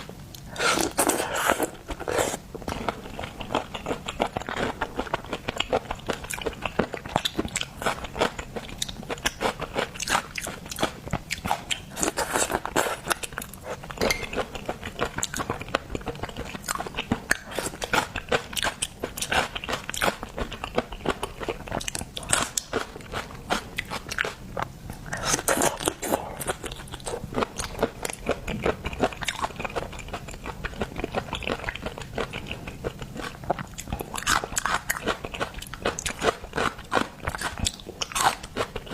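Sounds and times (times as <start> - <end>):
chewing seafood: 0.4 - 38.9.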